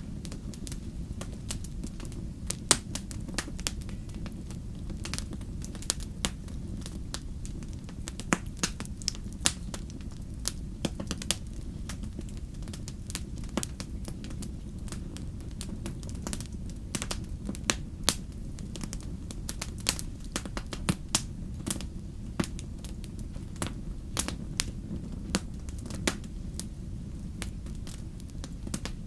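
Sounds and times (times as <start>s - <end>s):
fire crackling in a fireplace: 0.0s - 29.0s.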